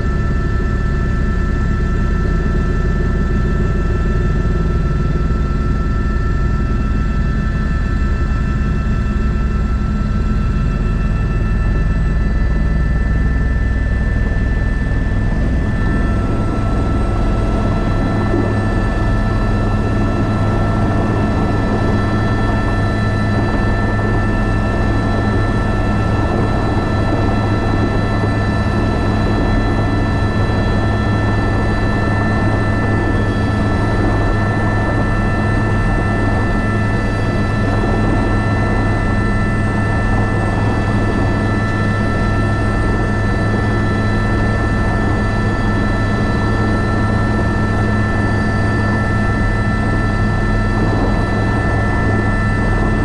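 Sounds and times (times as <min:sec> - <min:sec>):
helicopter turbine whine: 0:00.0 - 0:53.0
low drone of rotors: 0:02.4 - 0:53.0.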